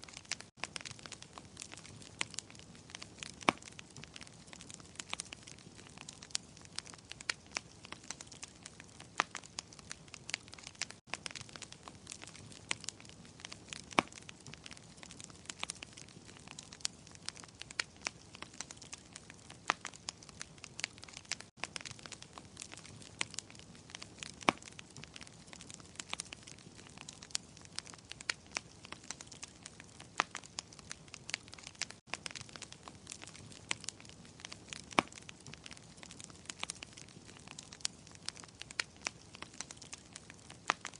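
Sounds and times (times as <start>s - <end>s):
burning logs popping: 0.0s - 40.9s
wood fire crackling: 0.0s - 40.9s.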